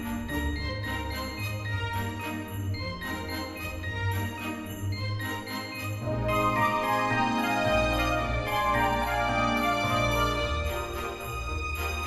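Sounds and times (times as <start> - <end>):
background music with sustained chords: 0.0 - 12.0.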